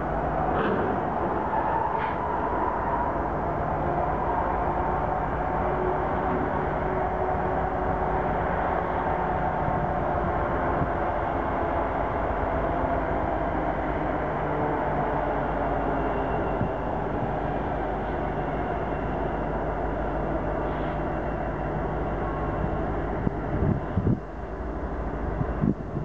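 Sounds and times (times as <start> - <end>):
train wheels on rail: 0.0 - 26.0.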